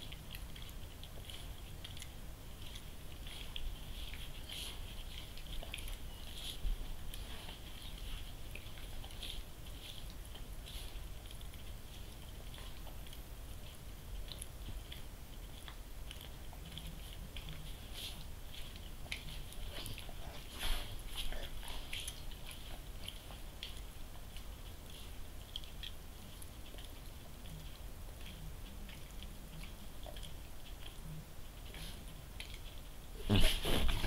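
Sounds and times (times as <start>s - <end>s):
dog licking and nibbling: 0.0s - 34.0s.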